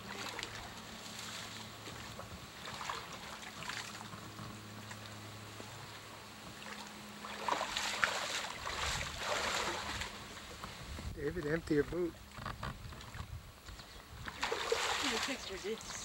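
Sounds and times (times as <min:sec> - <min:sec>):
water splashing and sloshing: 0:00.0 - 0:11.1, 0:12.0 - 0:16.0
steady low hum: 0:00.0 - 0:16.0.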